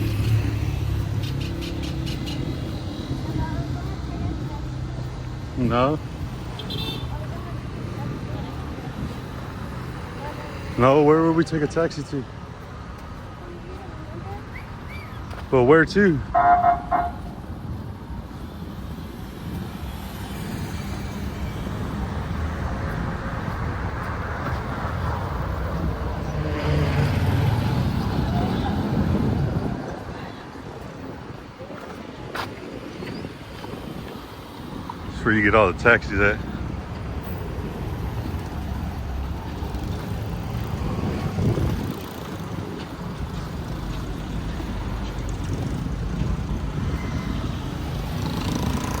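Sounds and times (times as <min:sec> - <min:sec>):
vehicle engines rumbling: 0:00.0 - 0:49.0.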